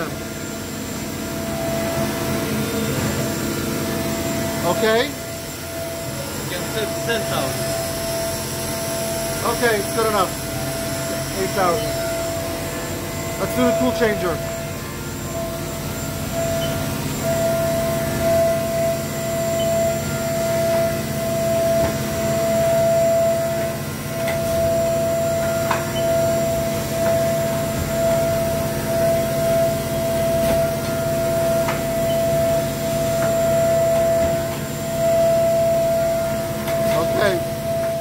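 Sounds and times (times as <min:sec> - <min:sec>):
machine high whine: 0:00.0 - 0:38.0.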